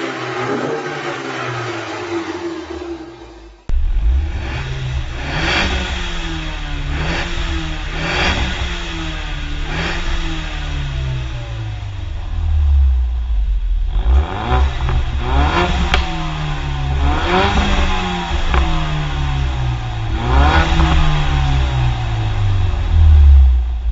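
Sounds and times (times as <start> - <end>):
car engine revving: 0.0 - 23.9
exhaust crack: 0.0 - 23.9.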